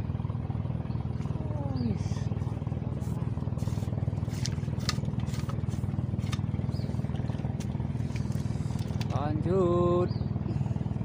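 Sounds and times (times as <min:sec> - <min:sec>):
pulsing motor drone: 0:00.0 - 0:11.0.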